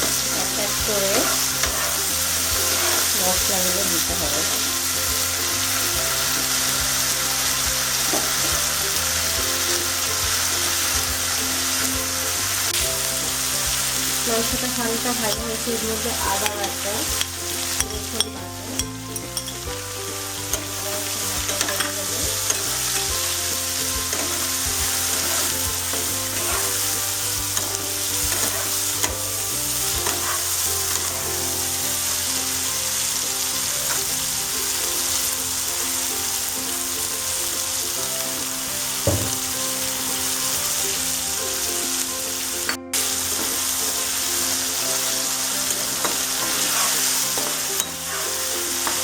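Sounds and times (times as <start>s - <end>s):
spatula stirring in pan: 0.0s - 42.1s, 43.0s - 49.0s
chicken sizzling in hot oil: 0.0s - 49.0s.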